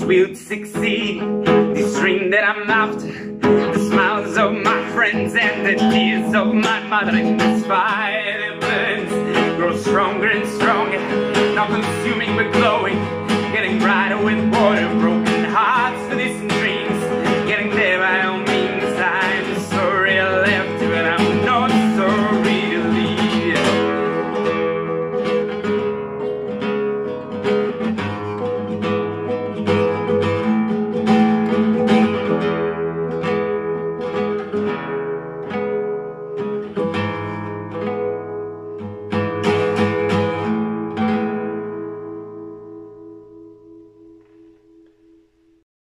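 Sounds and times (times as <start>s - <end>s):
acoustic guitar strumming: 0.0s - 45.6s.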